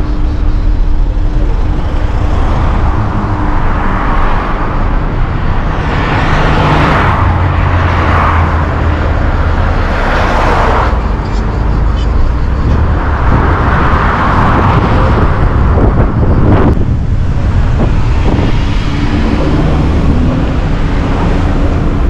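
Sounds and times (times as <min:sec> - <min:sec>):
steady low traffic rumble: 0:00.0 - 0:22.0
vehicles passing: 0:00.0 - 0:22.0.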